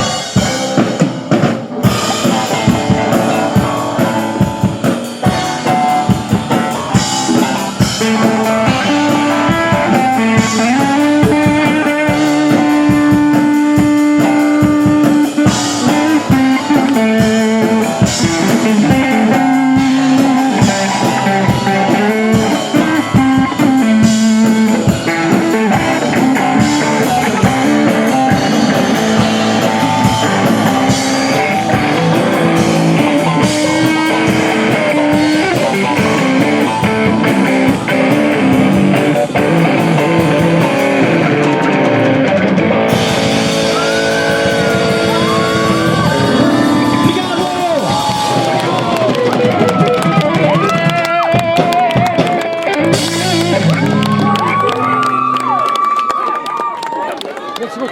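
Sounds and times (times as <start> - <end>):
drum kit: 0.0 - 55.8
electric guitar lead: 0.0 - 57.0.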